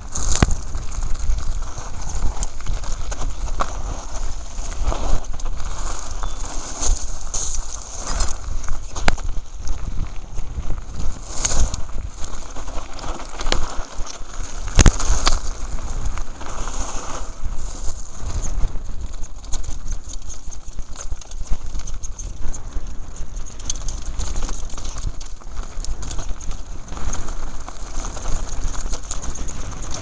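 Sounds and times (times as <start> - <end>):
bike rattling: 0.0 - 30.0
tyres crunching over gravel: 0.0 - 30.0
wind on microphone: 0.0 - 30.0.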